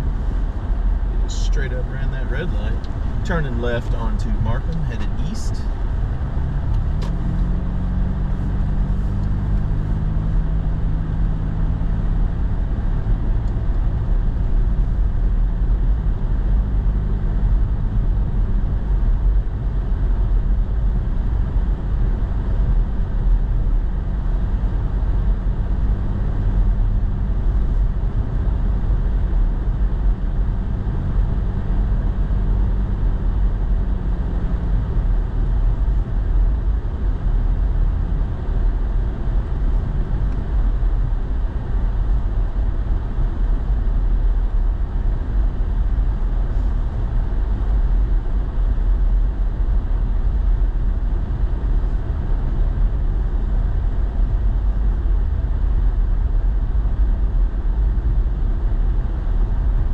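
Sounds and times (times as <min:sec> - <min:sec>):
road noise: 0:00.0 - 0:59.9
truck engine hum: 0:00.0 - 0:59.9.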